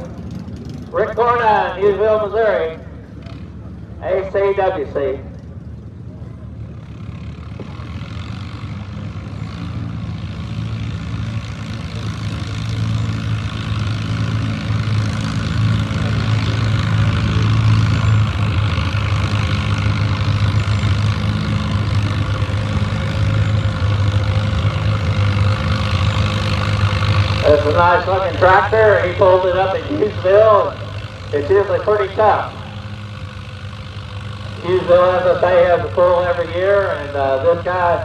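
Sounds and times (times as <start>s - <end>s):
tractor engine running under load: 0.0s - 38.0s.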